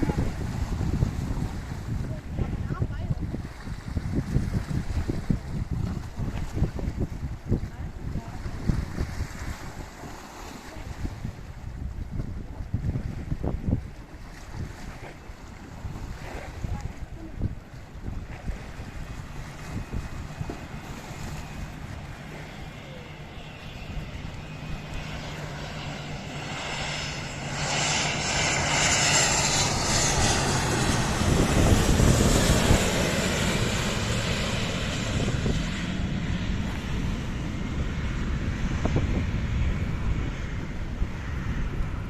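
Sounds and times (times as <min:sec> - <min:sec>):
aircraft turbofan engines: 0:00.0 - 0:42.0.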